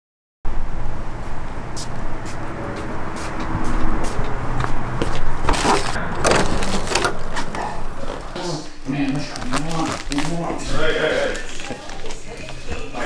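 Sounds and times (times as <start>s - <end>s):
traffic rumble: 0.5s - 13.0s.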